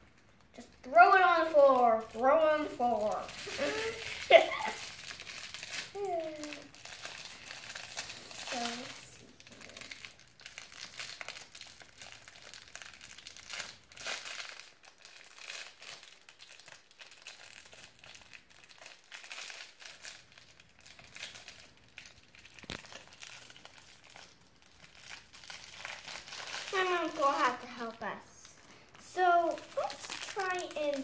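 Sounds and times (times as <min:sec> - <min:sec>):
plastic wrapper crinkling: 0:00.0 - 0:31.0.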